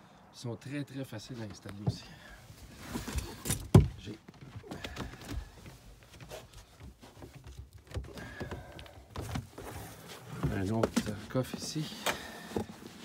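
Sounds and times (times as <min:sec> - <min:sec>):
mat knocking and rustling: 0:01.7 - 0:13.0.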